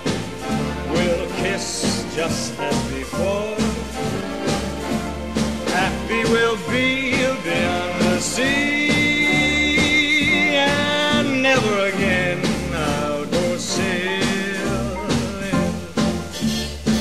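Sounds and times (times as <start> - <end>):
band music with steady beat: 0.0 - 17.0.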